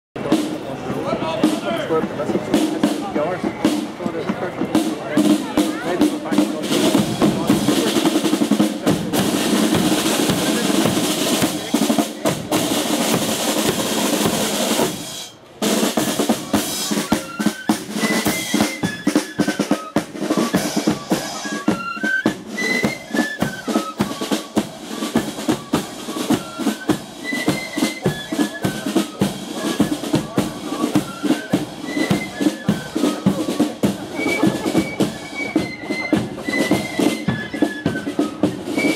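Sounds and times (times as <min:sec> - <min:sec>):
snare and bass drums: 0:00.2 - 0:38.9
flutes playing melody: 0:00.3 - 0:38.9.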